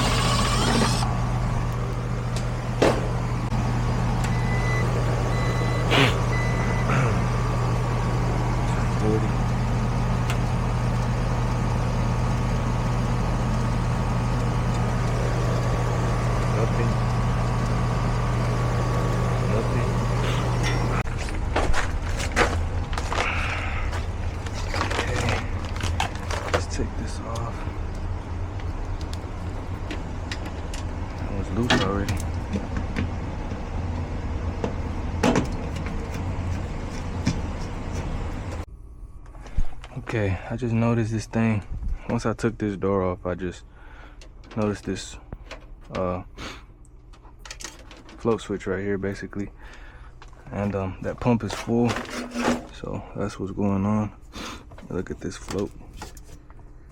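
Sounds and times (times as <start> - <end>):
furnace blower humming: 0.0 - 41.6, 47.4 - 53.0.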